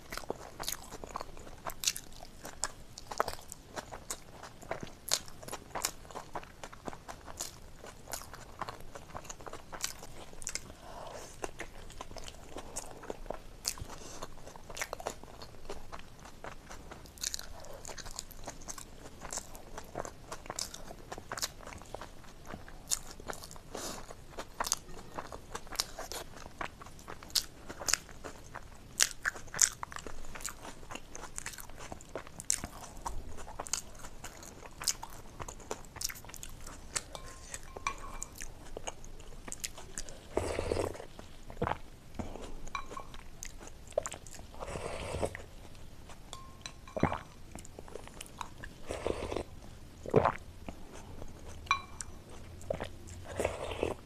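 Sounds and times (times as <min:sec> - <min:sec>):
close chewing with wet mouth smacks: 0:00.0 - 0:54.0.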